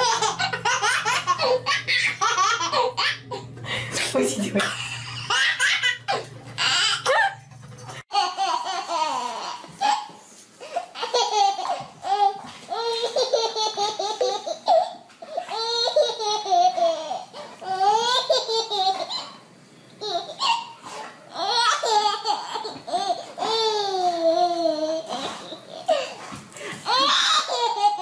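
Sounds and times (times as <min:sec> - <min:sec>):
baby laughing: 0:00.0 - 0:03.5, 0:04.6 - 0:07.4, 0:08.1 - 0:19.4, 0:20.0 - 0:28.0.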